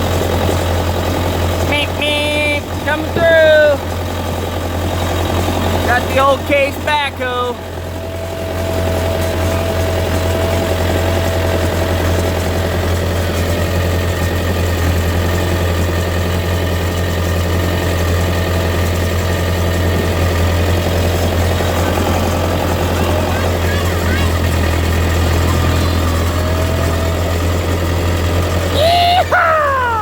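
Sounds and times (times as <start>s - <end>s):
backhoe engine droning: 0.0s - 30.0s.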